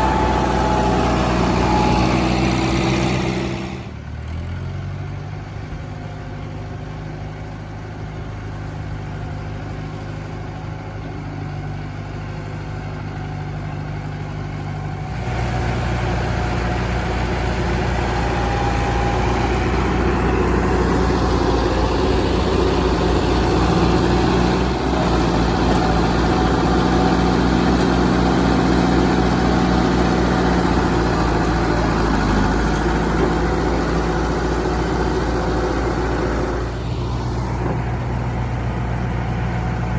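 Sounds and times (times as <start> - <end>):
tractor engine running: 0.0 - 4.4, 5.5 - 39.9.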